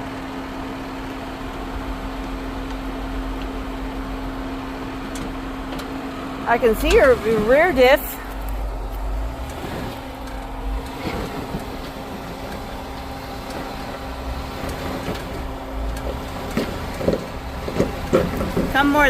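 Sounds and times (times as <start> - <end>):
off-road vehicle engine at low revs: 0.0 - 19.0.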